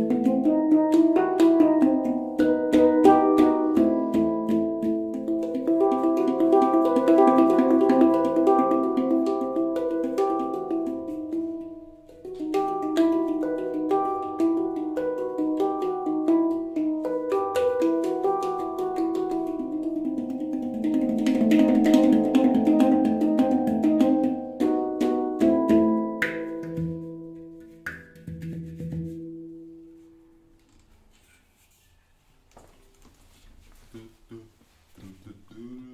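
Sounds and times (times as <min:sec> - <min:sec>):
handpan played with fingers: 0:00.0 - 0:30.1.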